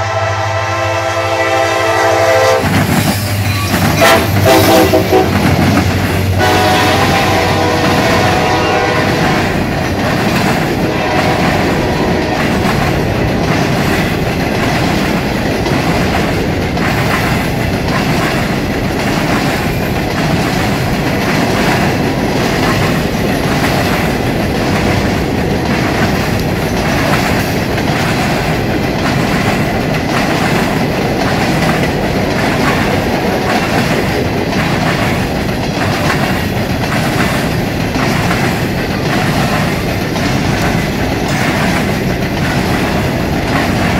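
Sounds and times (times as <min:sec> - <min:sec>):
train wheels rumbling on rails: 0:00.0 - 0:43.9
wheels clickety-clack: 0:02.6 - 0:43.9.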